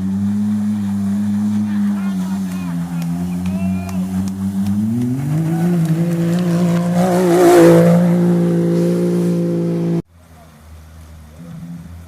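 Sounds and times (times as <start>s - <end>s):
racing engine passing close: 0.0s - 10.4s
racing engine high drone: 0.0s - 12.0s.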